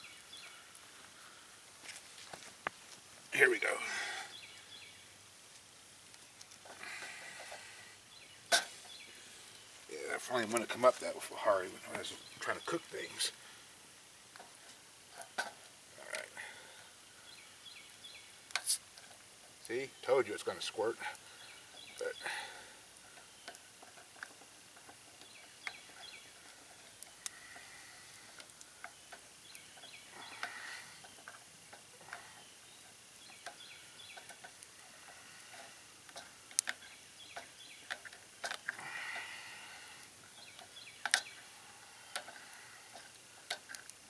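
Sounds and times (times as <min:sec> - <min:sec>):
hot can hissing: 0:00.0 - 0:44.0.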